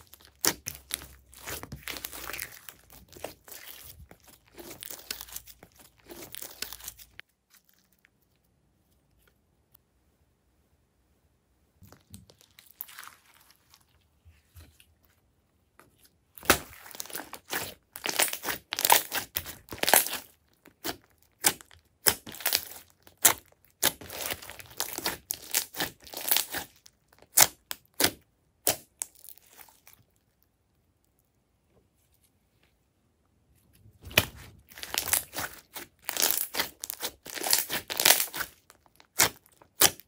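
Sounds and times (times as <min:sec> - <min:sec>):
slime squishing: 0:00.0 - 0:09.4, 0:11.8 - 0:30.7, 0:33.6 - 0:40.0.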